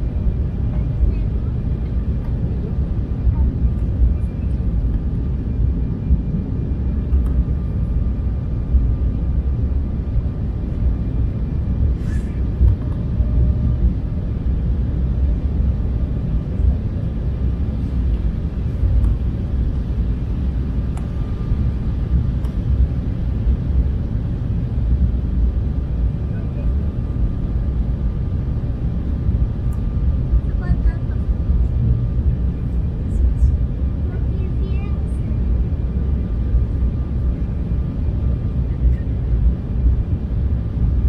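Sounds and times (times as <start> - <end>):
airliner cabin engine rumble: 0.0 - 41.0
faint steady whine: 0.0 - 41.0.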